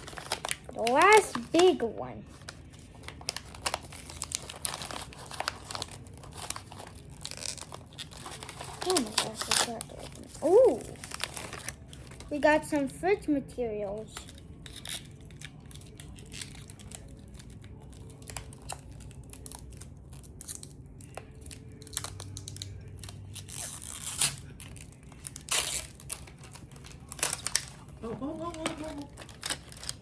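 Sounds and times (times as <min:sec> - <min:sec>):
plastic packaging crinkling and tearing: 0:00.0 - 0:12.6, 0:14.1 - 0:30.0.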